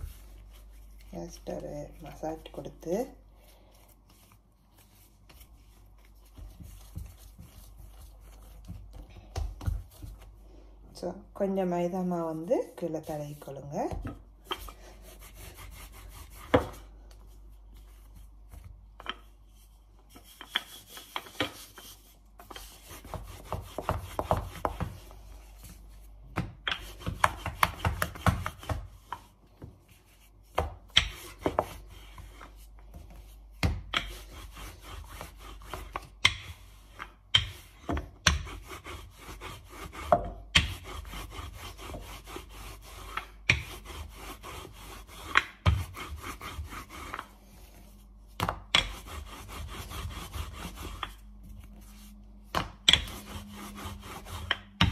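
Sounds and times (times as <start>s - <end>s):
rolling pin rubbing on dough: 0.0s - 54.9s.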